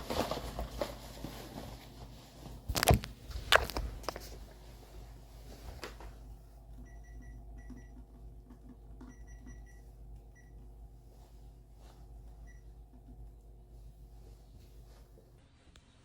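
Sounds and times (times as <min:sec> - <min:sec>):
steady low hum: 0:00.5 - 0:16.0.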